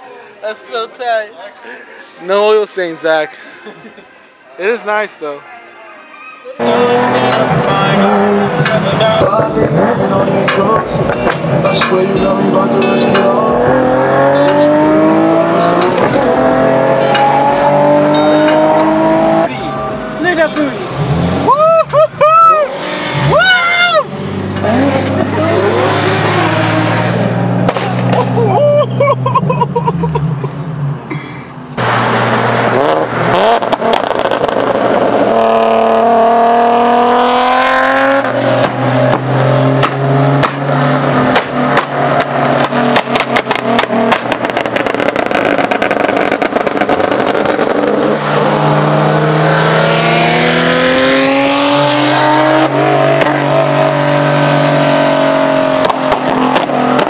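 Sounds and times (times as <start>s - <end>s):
car engines revving: 6.6s - 57.0s.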